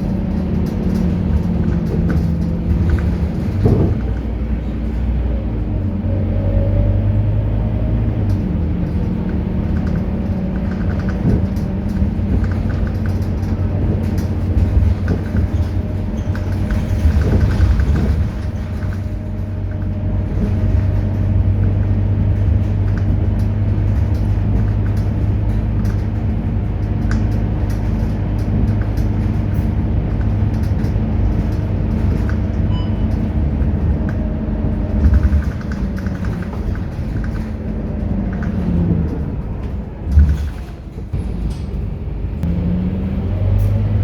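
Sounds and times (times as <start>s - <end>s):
bus diesel engine humming: 0.0s - 44.0s.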